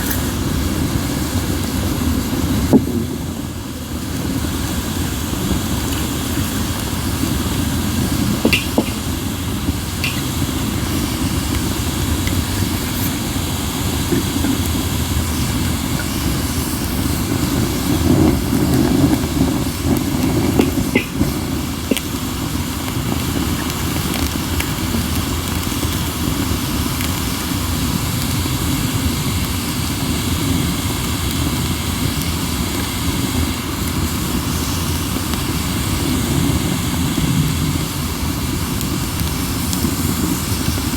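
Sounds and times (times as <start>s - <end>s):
firewood crackling and popping: 0.0s - 40.9s
wind rumble on microphone: 0.2s - 40.9s.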